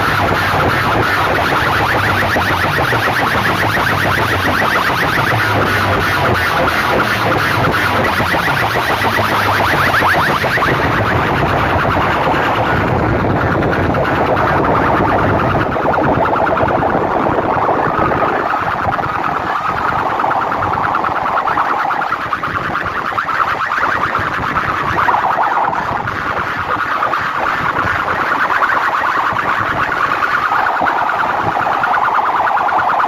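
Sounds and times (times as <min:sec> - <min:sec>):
distorted siren-like electronic wail: 0:00.0 - 0:33.0.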